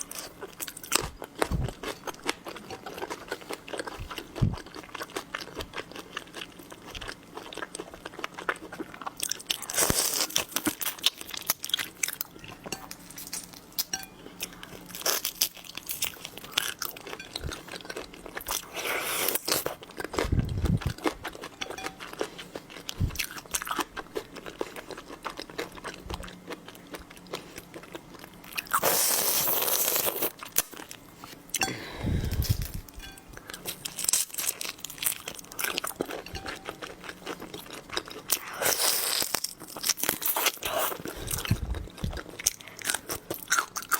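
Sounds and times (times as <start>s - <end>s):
crunching and chewing food: 0.0s - 43.9s.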